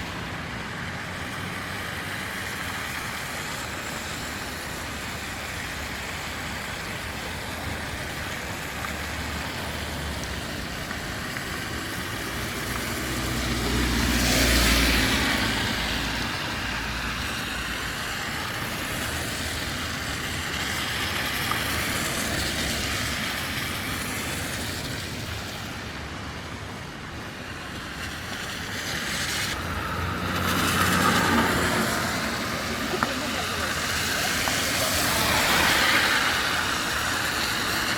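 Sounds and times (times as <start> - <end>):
street noise: 0.0 - 37.9
vehicles passing close by: 0.0 - 37.9.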